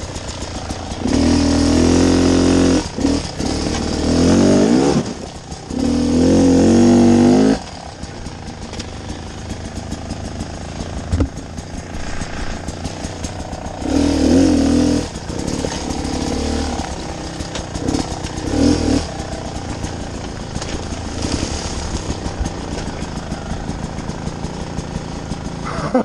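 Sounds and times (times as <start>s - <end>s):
motorcycle engine at low revs: 0.0s - 26.0s.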